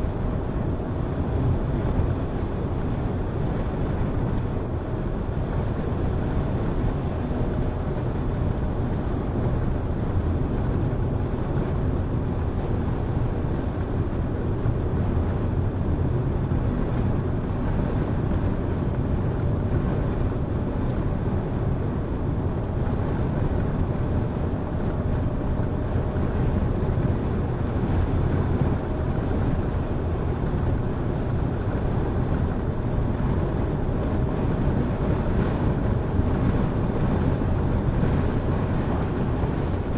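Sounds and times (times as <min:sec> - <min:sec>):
car engine and tyres rumbling: 0:00.0 - 0:39.9
wind noise: 0:00.0 - 0:39.9.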